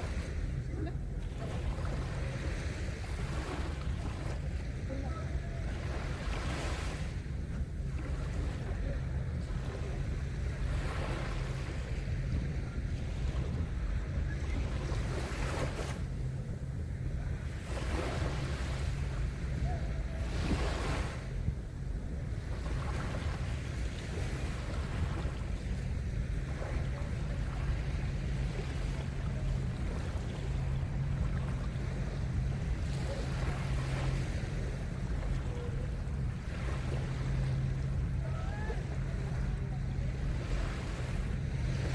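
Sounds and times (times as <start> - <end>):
sea waves washing onto beach: 0.0 - 41.9
steady low hum: 0.0 - 41.9
wind rumble on microphone: 0.0 - 41.9.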